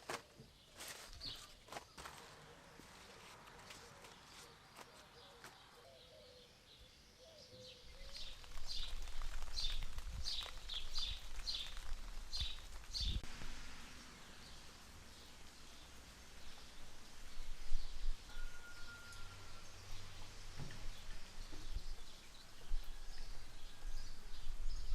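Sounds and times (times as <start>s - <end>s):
bird chirping: 0.6s - 13.2s, 14.3s - 24.9s.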